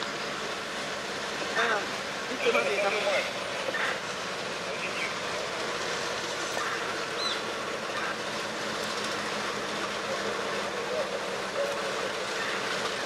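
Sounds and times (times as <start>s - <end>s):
diesel locomotive engine drone: 0.0s - 13.0s
train wheels rolling: 0.0s - 13.0s.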